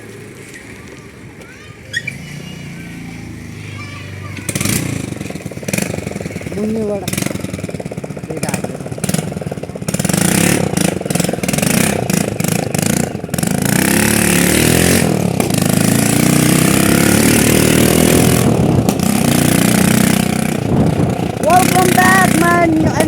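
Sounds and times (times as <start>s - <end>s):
motorcycle engine revving loudly: 2.0s - 23.0s.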